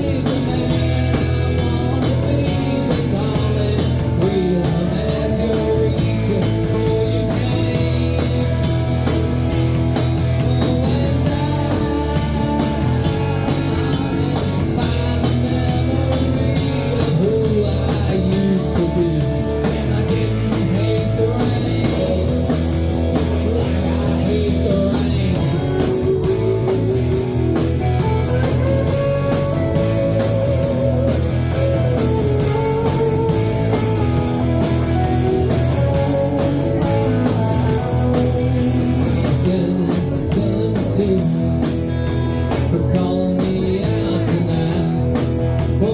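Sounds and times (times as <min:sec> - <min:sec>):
drum beat: 0:00.0 - 0:43.7
electric guitar: 0:00.0 - 0:45.9
person singing: 0:00.0 - 0:45.9.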